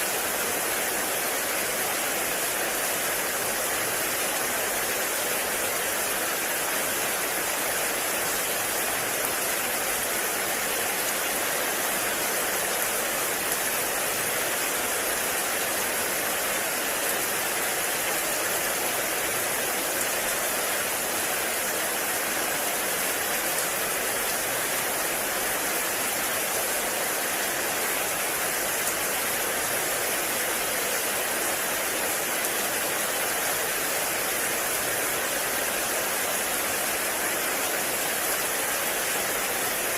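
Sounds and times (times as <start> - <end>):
heavy rain in a forest: 0.0 - 39.9.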